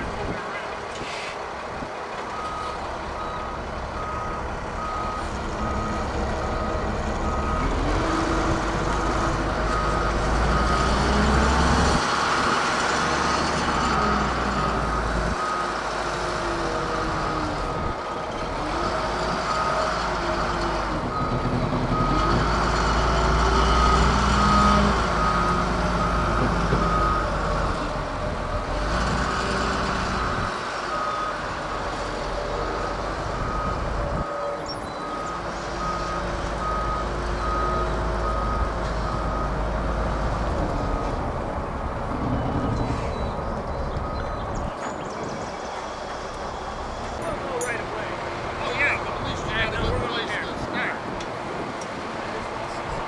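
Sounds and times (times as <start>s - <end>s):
diesel engine revving: 1.0s - 53.0s.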